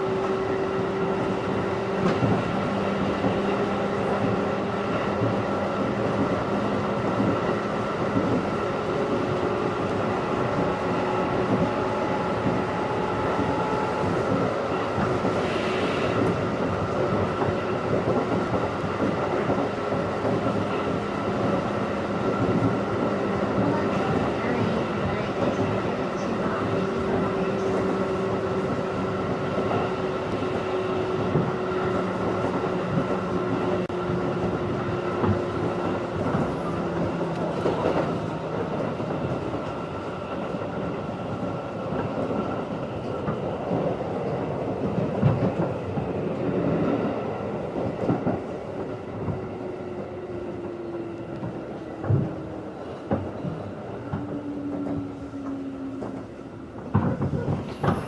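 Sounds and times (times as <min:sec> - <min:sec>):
rail-joint clacks: 0:01.2 - 0:58.0.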